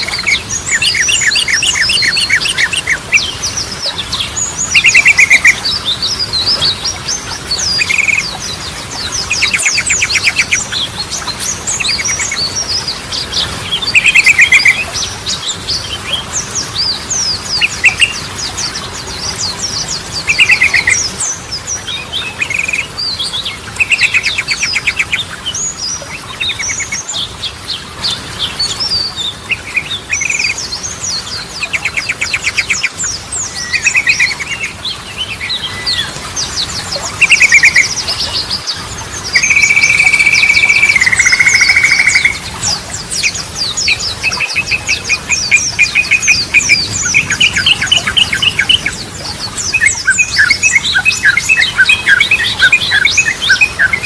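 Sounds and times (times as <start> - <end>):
bulbul trilling and chirping: 0.0 - 27.3, 28.1 - 54.0.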